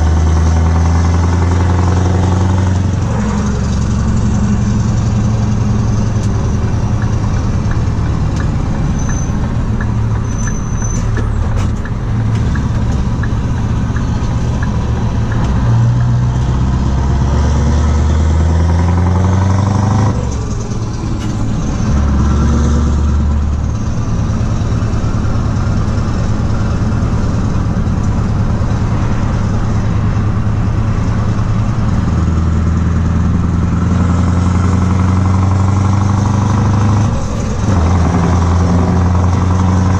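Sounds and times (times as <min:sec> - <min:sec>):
diesel truck engine from inside cab: 0:00.0 - 0:39.9.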